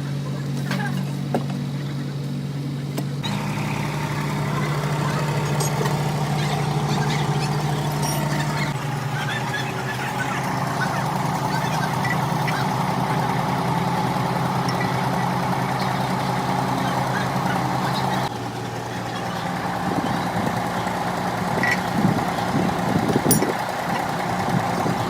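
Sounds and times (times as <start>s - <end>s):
engine idling: 0.0s - 25.0s
voices: 0.0s - 25.0s.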